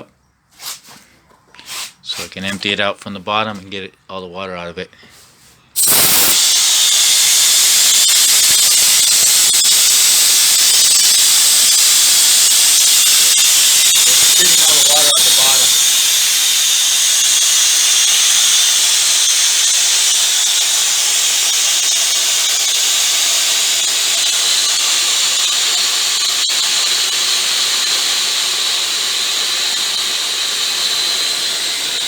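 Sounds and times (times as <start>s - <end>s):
compressed air hissing from valve: 5.8s - 32.0s.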